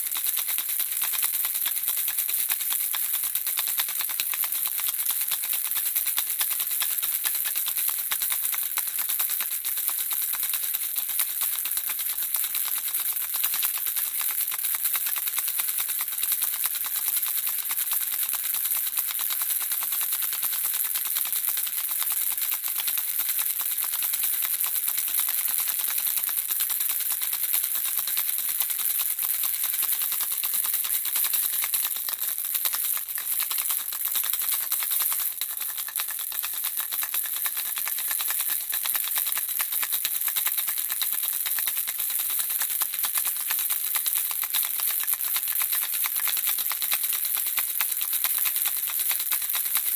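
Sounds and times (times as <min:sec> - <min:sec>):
baby rattle shaking: 0:00.0 - 0:49.9.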